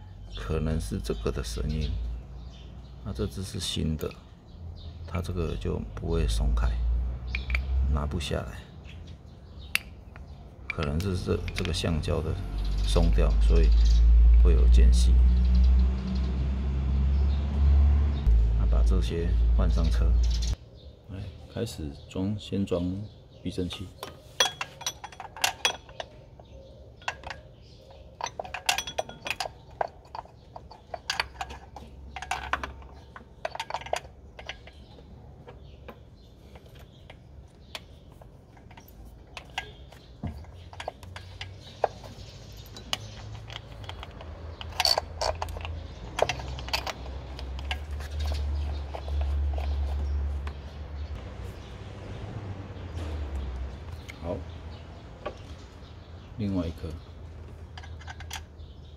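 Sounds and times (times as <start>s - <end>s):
hand tools and metal parts clinking: 0.3s - 4.3s, 5.0s - 16.4s, 23.5s - 58.9s.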